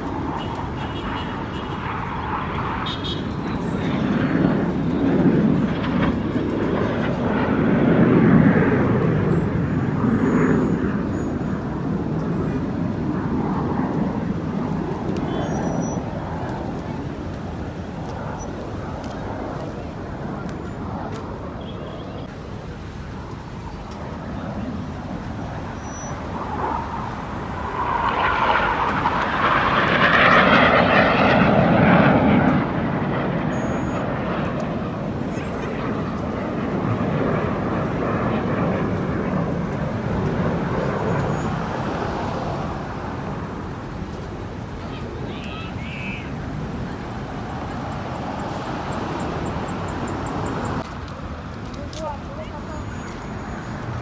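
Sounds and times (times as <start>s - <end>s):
airplane flying over: 0.0s - 54.0s.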